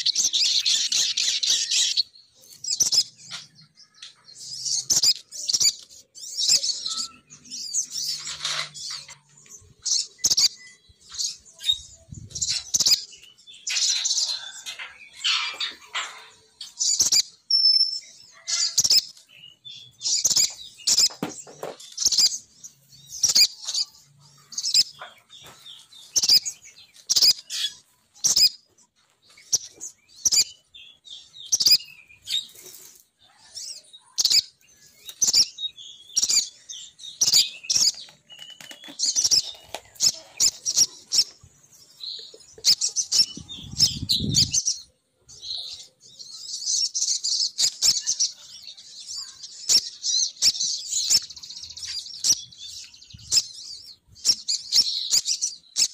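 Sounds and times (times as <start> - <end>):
high-pitched bird chirps: 0.0 - 21.2, 21.8 - 28.7, 29.4 - 32.6, 33.4 - 55.9.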